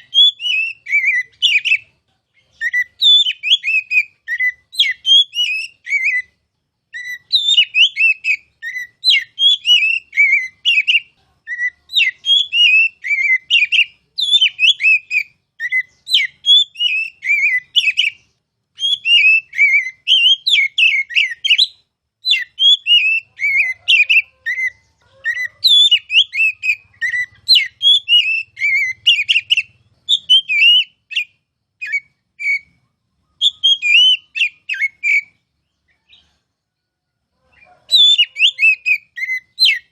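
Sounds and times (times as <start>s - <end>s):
bird singing whistled phrases: 0.0s - 35.4s, 37.6s - 39.9s.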